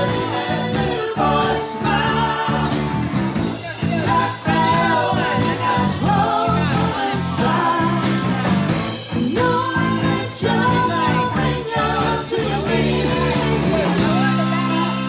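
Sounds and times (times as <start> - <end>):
drum kit beat: 0.0 - 15.0
electric bass: 0.0 - 15.0
electric guitar: 0.0 - 15.0
men's harmony vocals: 0.0 - 15.0
woman singing lead: 0.0 - 15.0.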